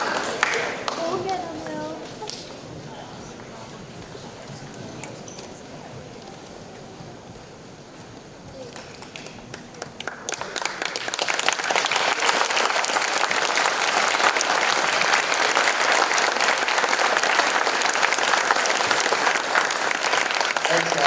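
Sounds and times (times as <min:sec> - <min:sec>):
audience applauding: 0:00.0 - 0:05.0, 0:08.5 - 0:21.0.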